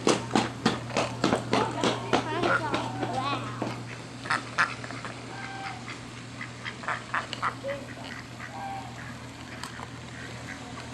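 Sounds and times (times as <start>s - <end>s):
steady low hum: 0.0s - 10.9s
ducks quacking: 2.0s - 10.9s.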